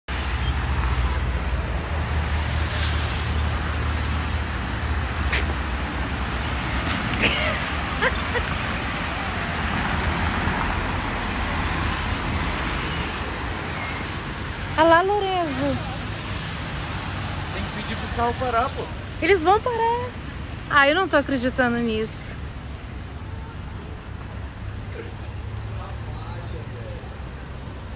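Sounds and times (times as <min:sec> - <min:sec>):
street traffic rumble: 0:00.1 - 0:27.9.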